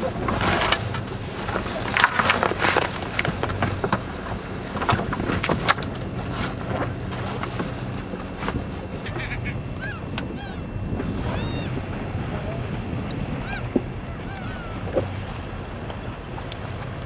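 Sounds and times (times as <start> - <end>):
boat engine running: 0.0 - 17.0
rushing sea water: 0.0 - 17.0
wind buffeting microphone: 0.0 - 17.0.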